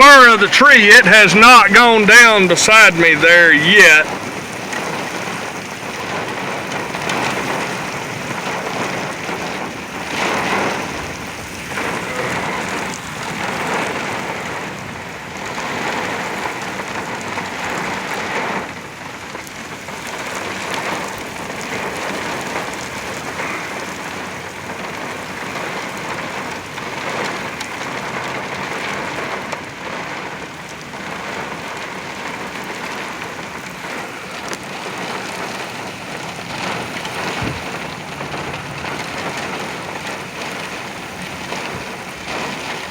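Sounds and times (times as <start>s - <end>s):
heavy rain pounding on a truck: 0.0s - 42.9s.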